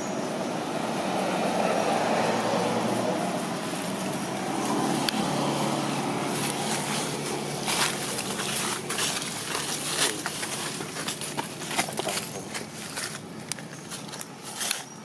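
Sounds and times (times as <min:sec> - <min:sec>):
traffic engine hum: 0:00.0 - 0:15.0
dry leaves crackling and rustling: 0:00.6 - 0:15.0.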